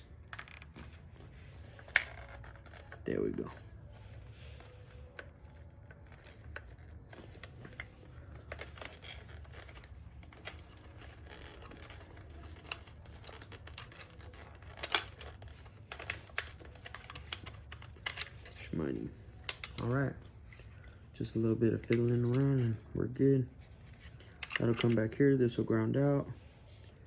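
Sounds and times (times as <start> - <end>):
clicks and rustles of plastic trim: 0.0 - 27.0.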